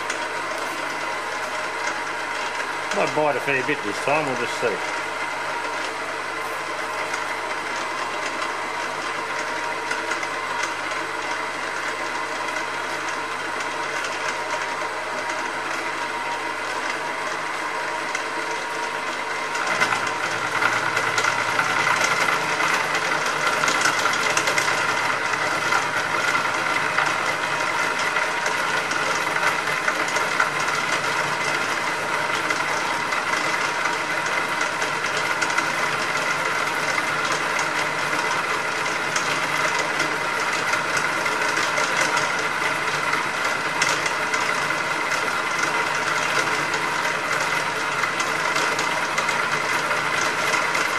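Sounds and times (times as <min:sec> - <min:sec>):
milling machine motor hum: 0:00.0 - 0:50.9.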